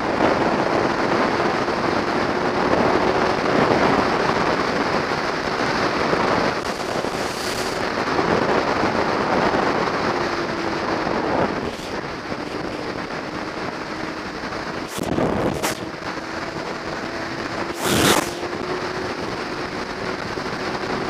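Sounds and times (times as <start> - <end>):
motorcycle engine hum: 0.0 - 21.0
wind buffeting on microphone: 0.0 - 21.0.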